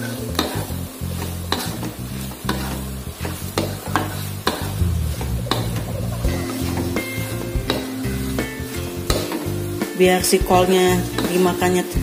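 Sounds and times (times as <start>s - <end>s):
food sizzling in a wok: 0.0s - 12.0s
spatula scraping and knocking wok: 0.0s - 12.0s.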